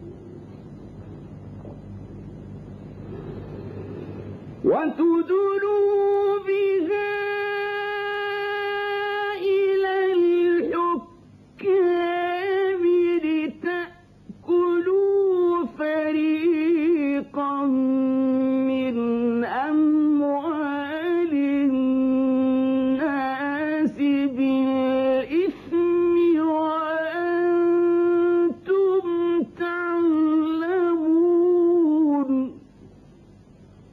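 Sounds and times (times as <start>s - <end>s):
man reciting melodically: 4.6s - 32.6s.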